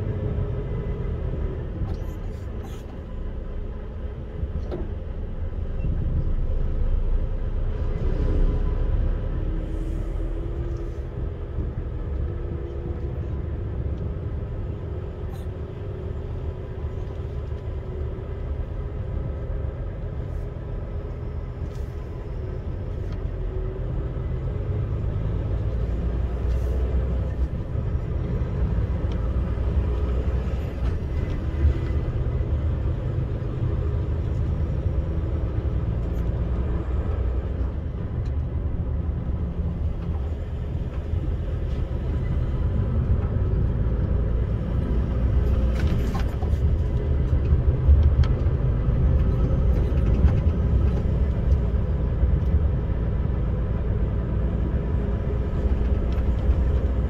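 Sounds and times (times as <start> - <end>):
vehicle engines and tyres rumbling: 0.0 - 57.0.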